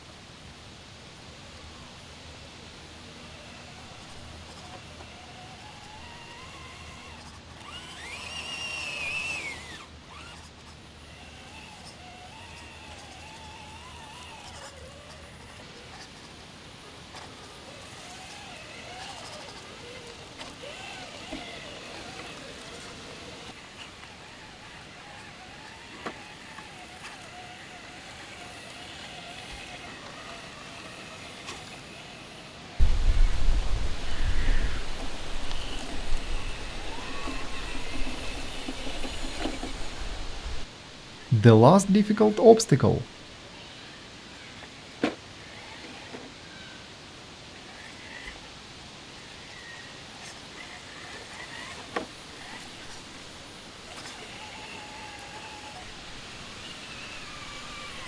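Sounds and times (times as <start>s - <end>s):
rc truck electric motor whining: 0.1s - 40.7s, 43.4s - 58.0s.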